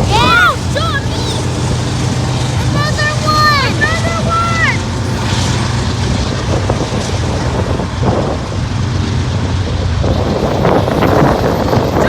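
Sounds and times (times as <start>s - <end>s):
vehicle engine rumbling: 0.0s - 12.0s
wind on microphone: 0.0s - 12.0s.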